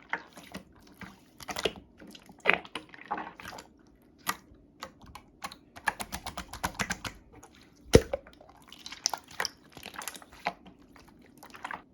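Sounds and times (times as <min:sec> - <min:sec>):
slime squishing with wet pops: 0:00.0 - 0:11.9.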